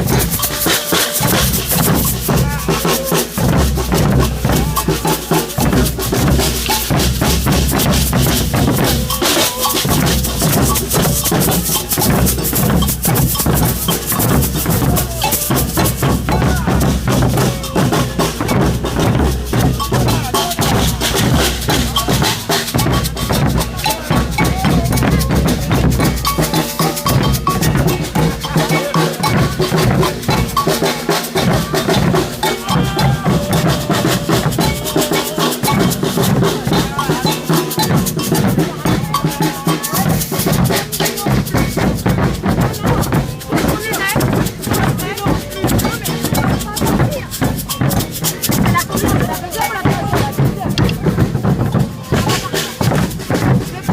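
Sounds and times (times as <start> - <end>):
drums and hand percussion: 0.0 - 53.9
voices singing: 0.0 - 53.9.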